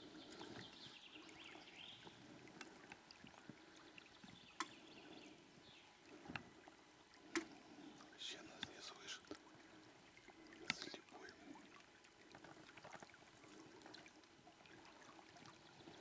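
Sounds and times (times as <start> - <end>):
water lapping against boat: 0.0 - 16.0.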